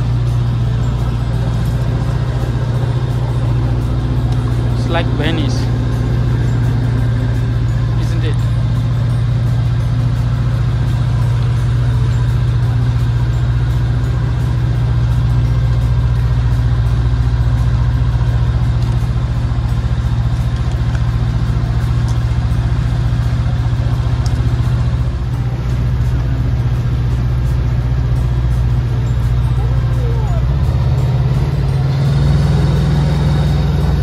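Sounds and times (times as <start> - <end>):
boat motor droning: 0.0 - 34.0.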